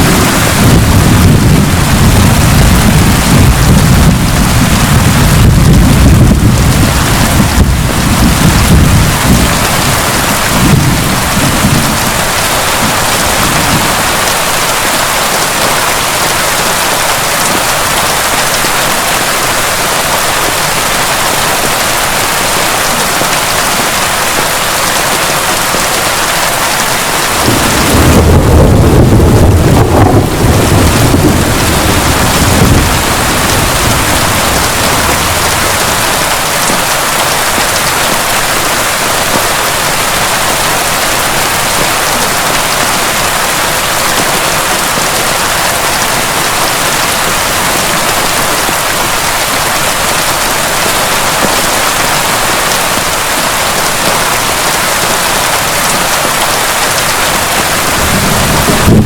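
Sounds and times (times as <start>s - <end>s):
thunder rumbling: 0.0s - 19.2s, 21.5s - 51.0s, 55.6s - 59.0s
heavy rain pouring: 0.0s - 59.0s.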